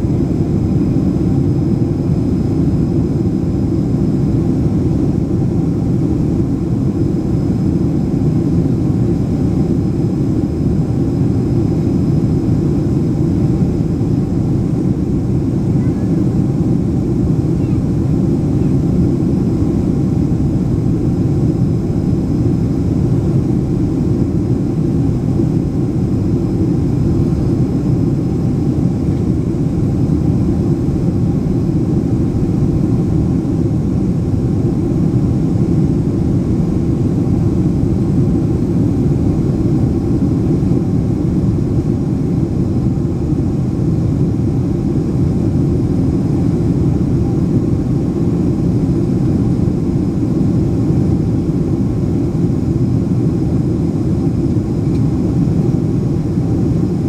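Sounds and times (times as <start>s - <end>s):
airliner cabin roar: 0.0s - 57.0s
faint steady whines: 0.0s - 57.0s.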